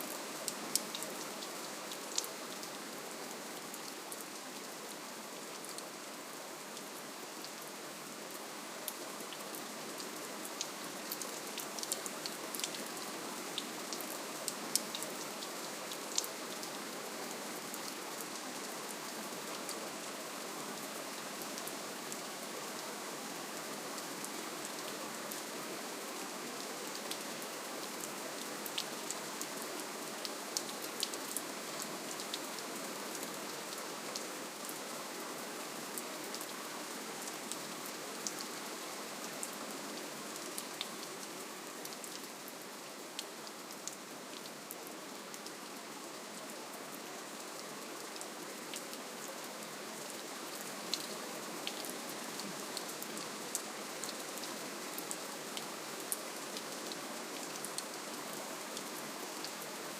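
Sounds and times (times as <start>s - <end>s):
gentle rain hissing: 0.0s - 59.9s.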